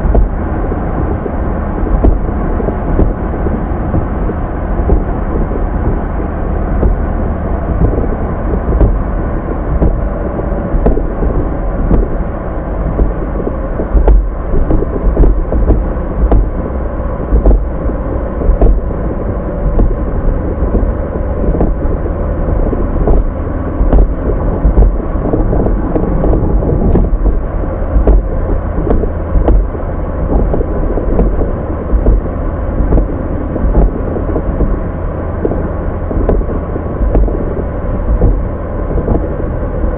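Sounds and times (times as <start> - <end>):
car road and engine rumble: 0.0 - 39.9
knocks and bumps from road: 0.0 - 39.9.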